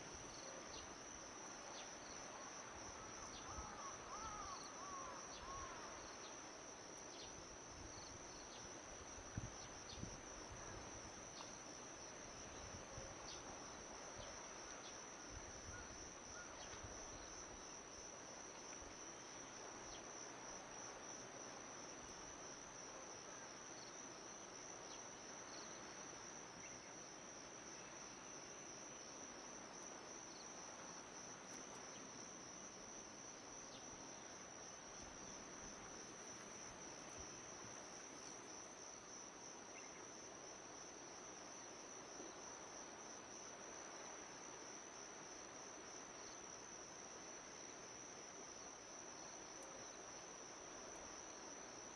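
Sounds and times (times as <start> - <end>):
insects trilling: 0.0 - 21.2, 23.5 - 51.9.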